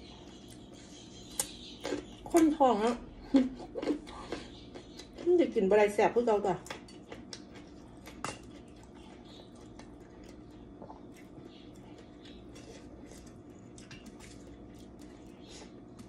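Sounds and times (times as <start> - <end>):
steady low hum: 0.0 - 16.0
chewing with wet mouth clicks: 0.2 - 5.4, 6.6 - 16.0.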